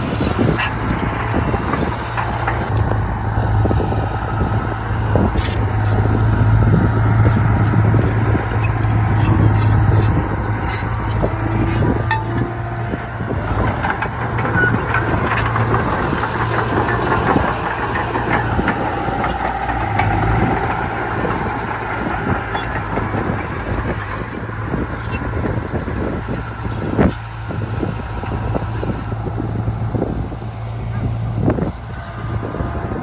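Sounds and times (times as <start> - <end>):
diesel engine running: 0.0 - 33.0
machinery rattling and clanking: 0.0 - 33.0.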